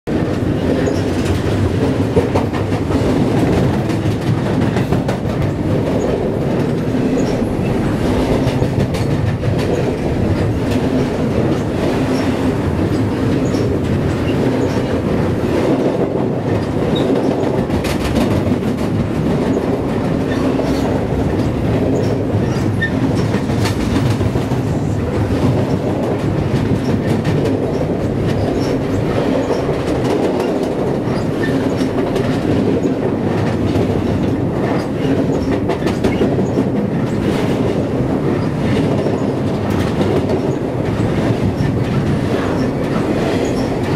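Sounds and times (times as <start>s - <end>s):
freight train rumbling over bridge: 0.0s - 43.9s.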